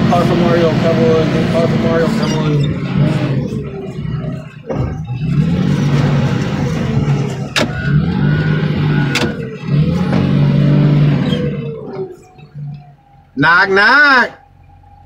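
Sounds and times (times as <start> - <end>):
heavy machine engine running: 0.0 - 13.4.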